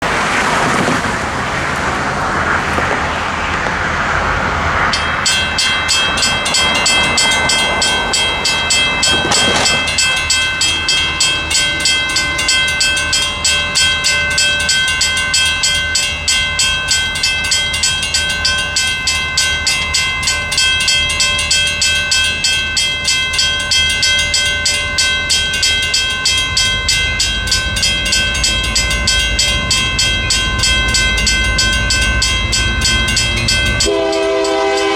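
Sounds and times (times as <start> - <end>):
crossing signal bell clanging: 0.0 - 34.9
traffic noise: 0.0 - 34.9.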